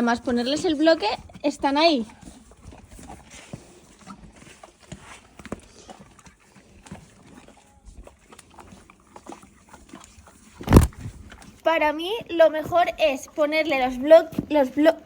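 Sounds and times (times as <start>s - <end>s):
horses licking mineral block: 0.0s - 15.0s.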